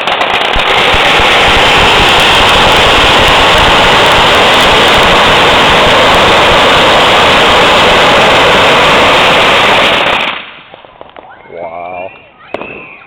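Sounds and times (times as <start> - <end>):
firecrackers crackling: 0.0 - 13.0.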